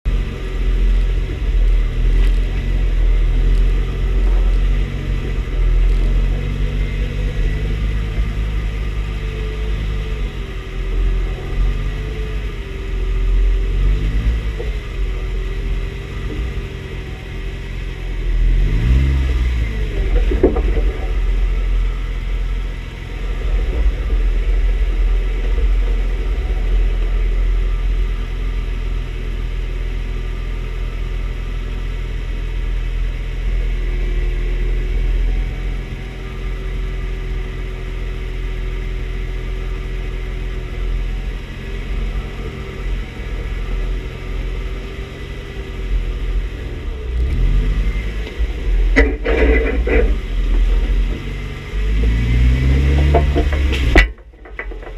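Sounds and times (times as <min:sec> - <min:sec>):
car engine running at low speed: 0:00.0 - 0:54.9.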